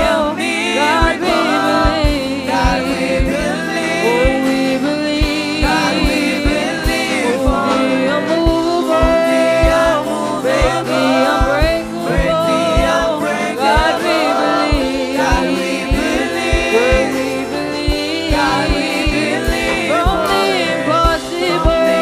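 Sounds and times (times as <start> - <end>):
singers holding sustained notes: 0.0 - 22.0
steady drum beat: 0.0 - 22.0.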